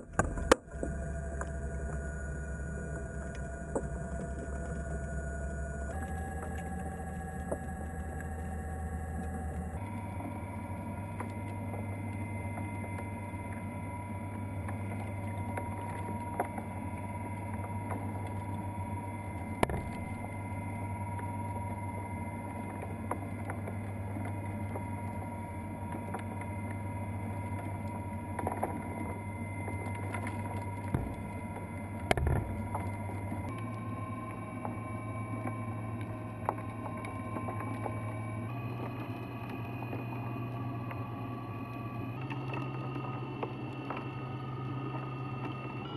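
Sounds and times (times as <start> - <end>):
electric motor hum: 0.0 - 45.9.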